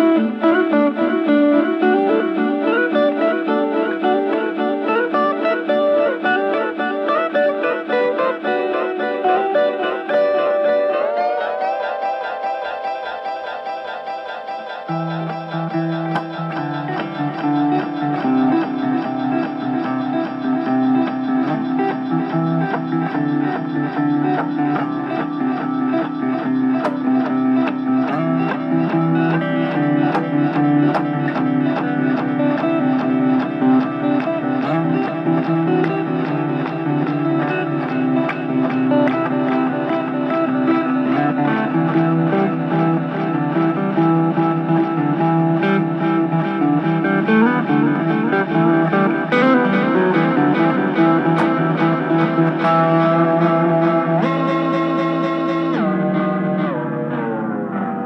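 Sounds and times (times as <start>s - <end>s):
electric guitar with delay echoes: 0.0s - 58.0s.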